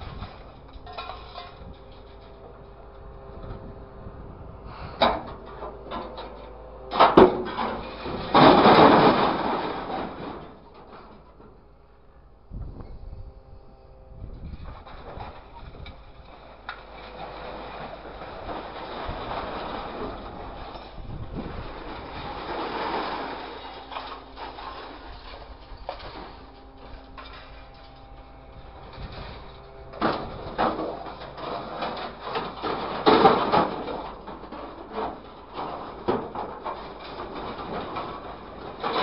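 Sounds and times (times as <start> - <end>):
scrap metal scraping and clattering: 0.0 - 3.7, 4.7 - 11.7, 14.3 - 39.0
hydraulic crane humming: 0.0 - 39.0.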